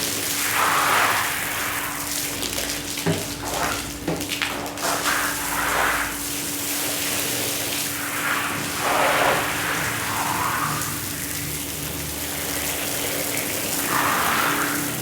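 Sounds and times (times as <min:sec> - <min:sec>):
steady machine hum: 0:00.0 - 0:15.0
swishing through wet rug: 0:00.3 - 0:15.0.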